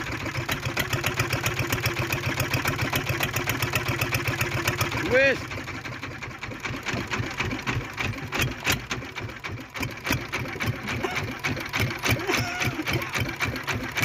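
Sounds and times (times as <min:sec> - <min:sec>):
boat engine clattering: 0:00.0 - 0:14.0.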